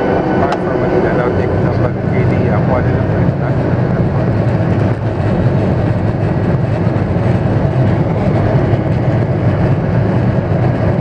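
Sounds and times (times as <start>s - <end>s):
jet engines at take-off thrust: 0.0s - 11.0s
wheels rumbling over runway: 0.0s - 11.0s.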